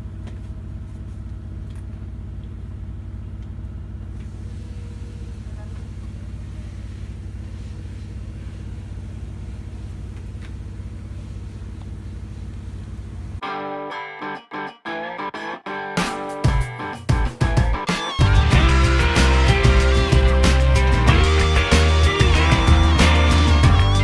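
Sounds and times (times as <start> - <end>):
van engine droning: 0.0 - 13.4, 17.6 - 24.0.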